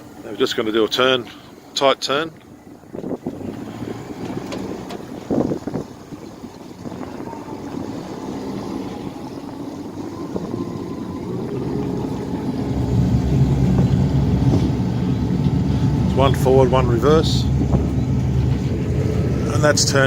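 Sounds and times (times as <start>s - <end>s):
outboard motors running: 0.0s - 20.0s.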